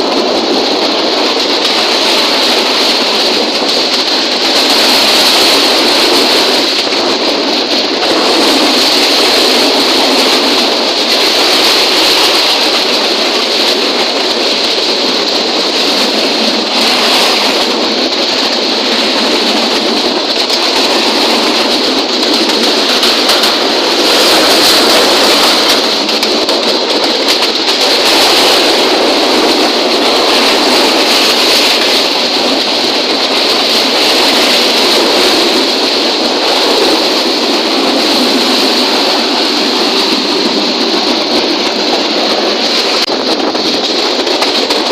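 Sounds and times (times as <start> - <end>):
train running: 0.0 - 44.9.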